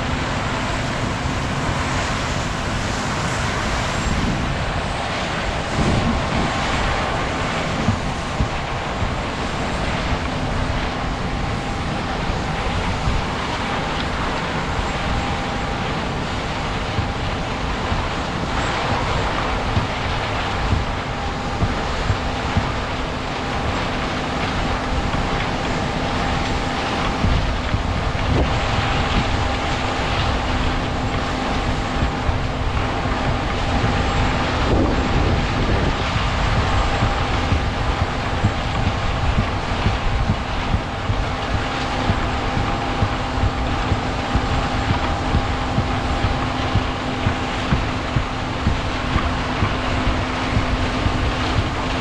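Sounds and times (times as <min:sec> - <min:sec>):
diesel farm machinery running: 0:00.0 - 0:52.0
faint steady hum: 0:00.0 - 0:52.0.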